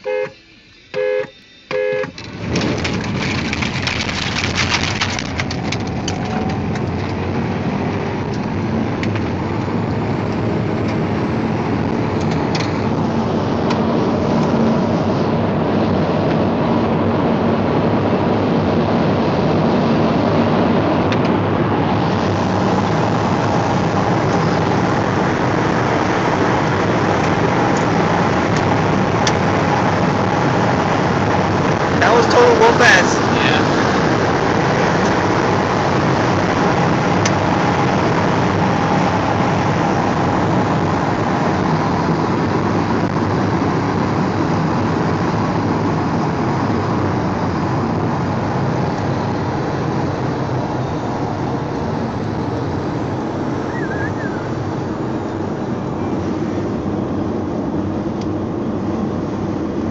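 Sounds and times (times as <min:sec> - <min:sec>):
car engine at full throttle: 0:00.0 - 0:59.9
wind and road noise: 0:00.0 - 0:59.9.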